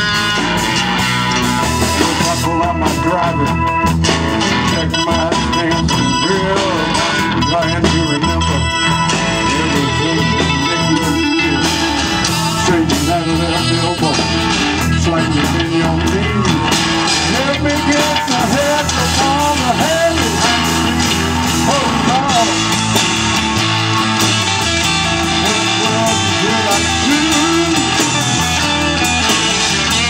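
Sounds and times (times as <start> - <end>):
bass and drums: 0.0 - 30.0
electric guitar: 0.0 - 30.0
organ-toned keyboard: 0.0 - 30.0.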